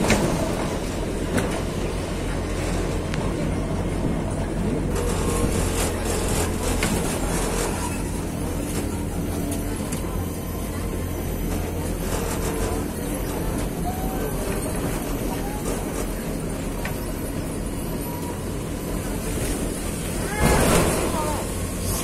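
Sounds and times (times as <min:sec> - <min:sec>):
bus engine hum: 0:00.0 - 0:22.0
road and wind noise: 0:00.0 - 0:22.0.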